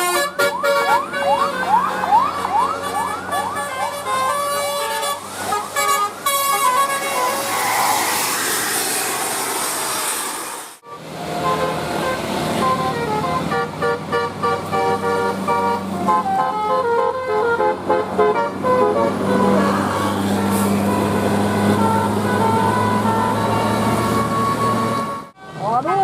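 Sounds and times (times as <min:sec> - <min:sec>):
multi-tone air horn melody: 0:00.0 - 0:08.4, 0:10.8 - 0:26.0
bus engine running: 0:00.0 - 0:26.0.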